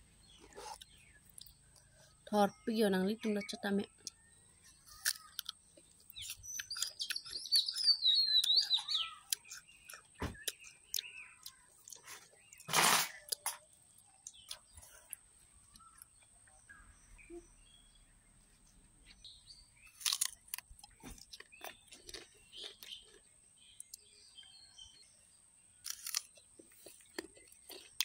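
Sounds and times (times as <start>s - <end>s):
songbird singing falling chirps: 0.0s - 28.0s.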